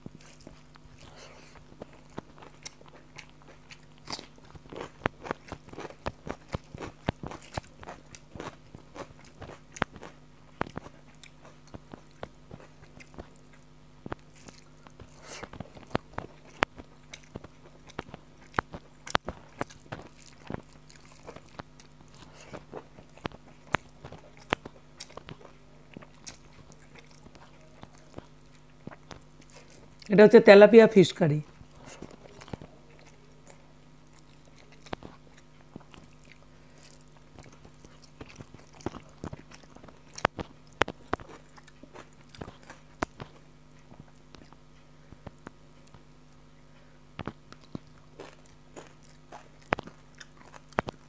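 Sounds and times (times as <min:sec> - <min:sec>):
chewing with wet clicks and smacks: 0:00.0 - 0:30.2, 0:31.4 - 0:51.0.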